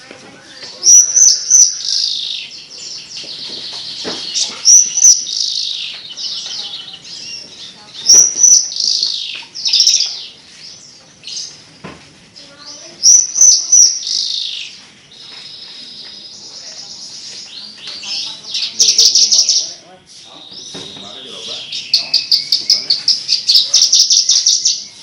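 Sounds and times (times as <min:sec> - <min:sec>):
bush lark singing chirps and trills: 0:00.5 - 0:11.6, 0:12.7 - 0:25.0.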